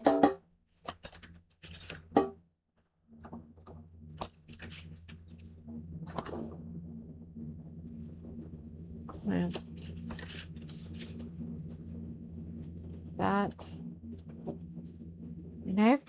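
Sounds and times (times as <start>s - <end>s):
low steady hum: 3.1s - 16.0s.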